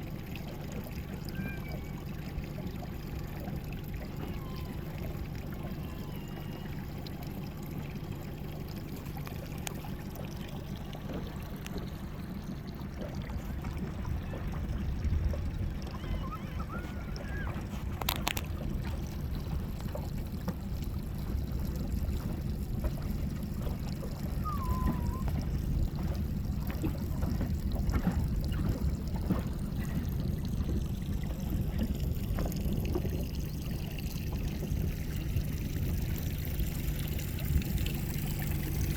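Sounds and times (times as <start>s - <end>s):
sea water lapping: 0.0s - 38.9s
low rumble: 7.0s - 38.9s.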